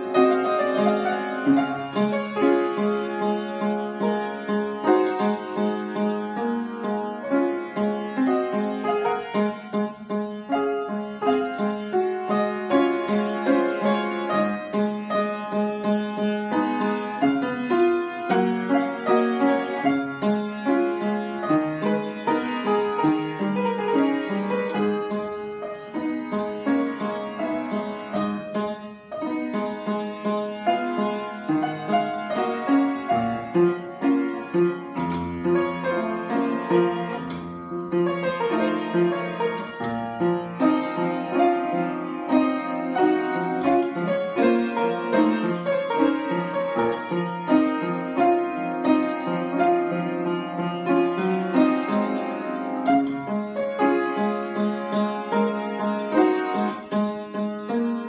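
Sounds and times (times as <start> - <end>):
upright piano playing: 0.0 - 58.0.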